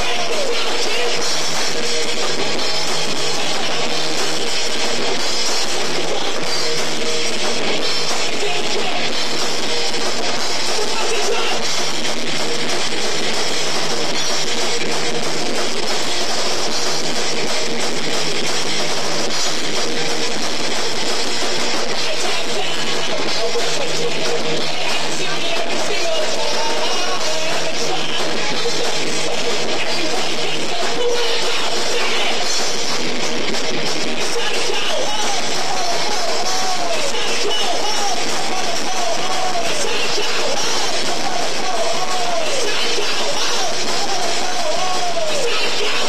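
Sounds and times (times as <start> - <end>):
live rock band playing: 0.0 - 46.0.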